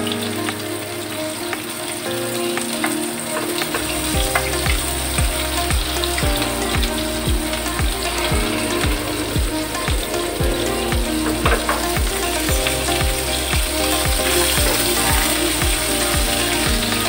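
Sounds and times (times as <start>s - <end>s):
background music with steady beat: 0.0s - 17.0s
onions sizzling in hot oil: 1.0s - 17.0s.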